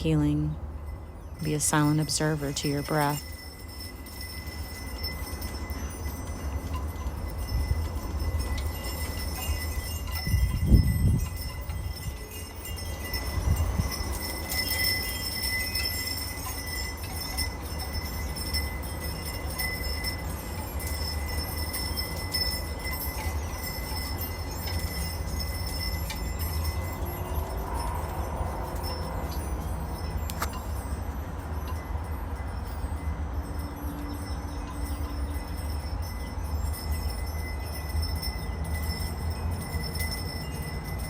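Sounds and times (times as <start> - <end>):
wind chimes ringing: 0.0 - 41.0.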